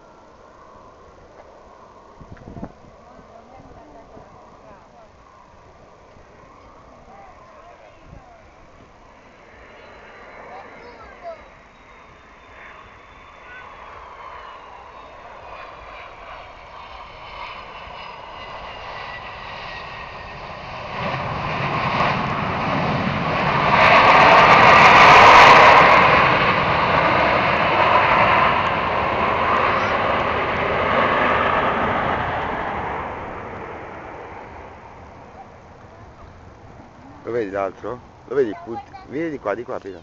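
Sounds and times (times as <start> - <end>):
airplane engines taking off: 0.0 - 40.0.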